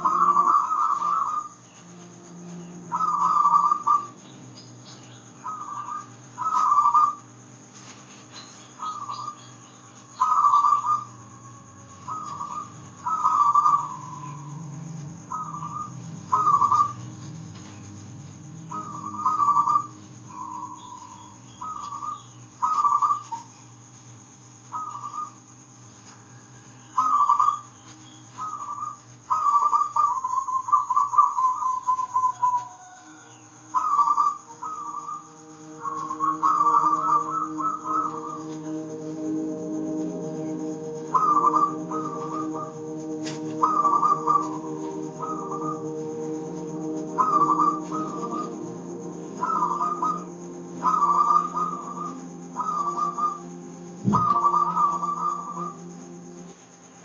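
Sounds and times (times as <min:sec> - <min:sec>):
dove cooing: 0:00.0 - 0:07.3, 0:08.1 - 0:23.5, 0:24.7 - 0:25.4, 0:26.4 - 0:56.5
soft instrumental drone: 0:00.0 - 0:57.0.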